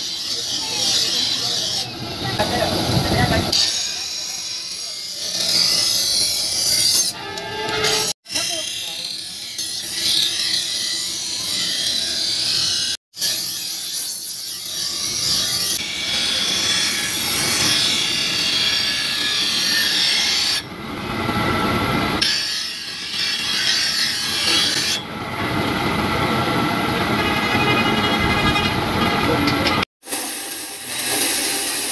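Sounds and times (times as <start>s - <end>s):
bench grinder grinding steel blade: 0.0s - 2.8s, 3.5s - 25.1s, 27.3s - 31.9s.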